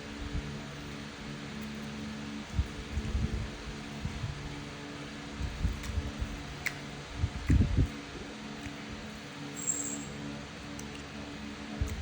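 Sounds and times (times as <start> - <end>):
mechanical hum with hiss: 0.0 - 12.0.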